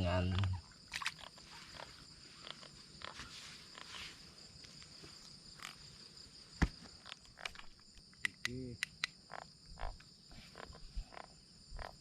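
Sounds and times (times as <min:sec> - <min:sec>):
crickets and insects chirring: 0:00.0 - 0:12.0.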